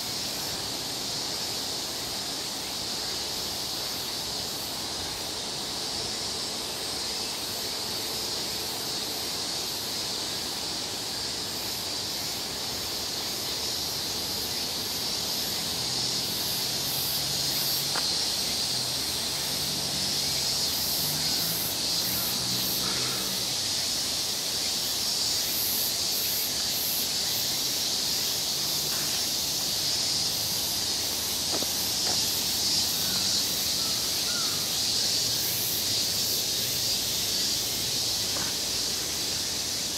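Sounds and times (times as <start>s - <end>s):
cicadas singing: 0.0s - 39.9s.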